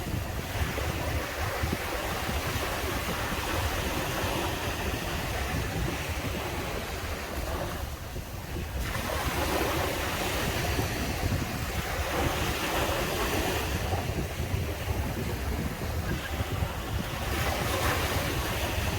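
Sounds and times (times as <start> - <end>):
ocean surf breaking on beach: 0.0 - 18.9
wind rumble on microphone: 0.0 - 18.9.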